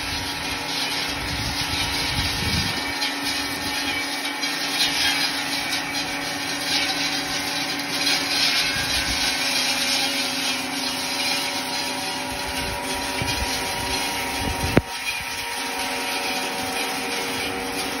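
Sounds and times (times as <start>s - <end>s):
saw blades cutting foliage: 0.0s - 18.0s
tractor engine running: 0.0s - 18.0s.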